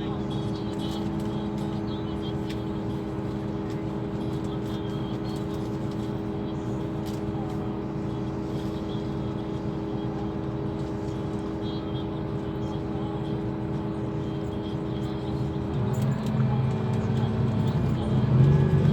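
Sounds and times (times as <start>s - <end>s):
diesel engine running steadily: 0.0s - 18.9s.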